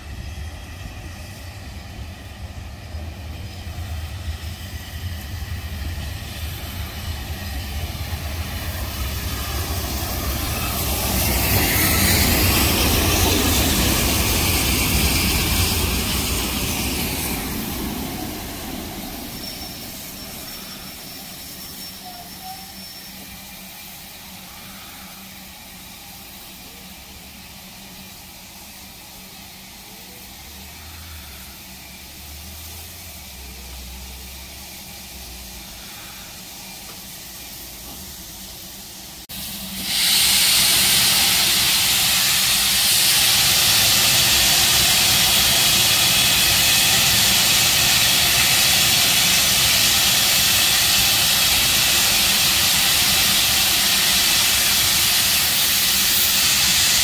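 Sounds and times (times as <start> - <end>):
steam hissing: 0.0 - 57.0.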